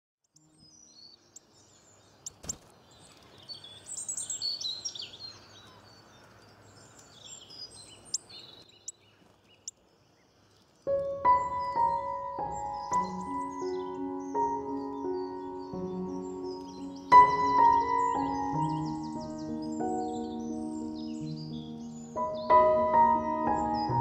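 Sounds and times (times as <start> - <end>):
small birds chirping and trilling: 0.2 - 24.0
faint steady hiss: 0.3 - 24.0.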